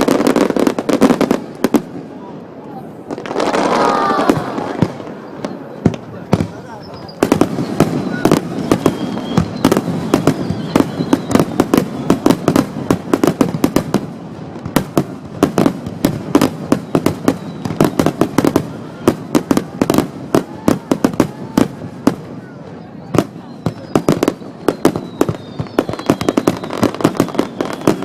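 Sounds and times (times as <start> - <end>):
distorted fireworks bursting: 0.0 - 28.0.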